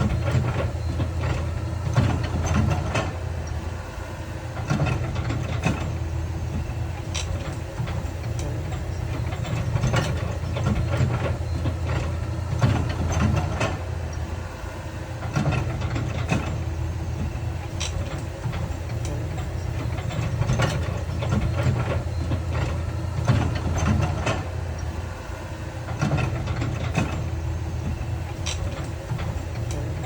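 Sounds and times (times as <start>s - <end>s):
heavy diesel machinery droning: 0.0s - 30.0s.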